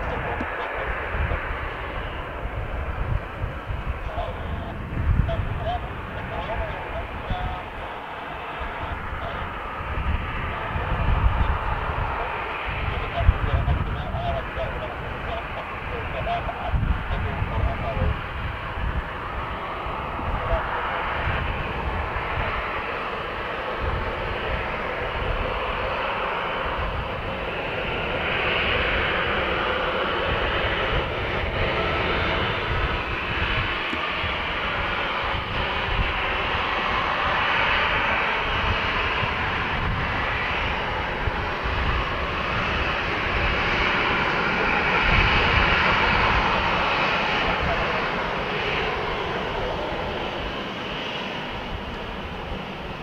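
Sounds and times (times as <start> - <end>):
jet engines running: 0.0 - 53.0.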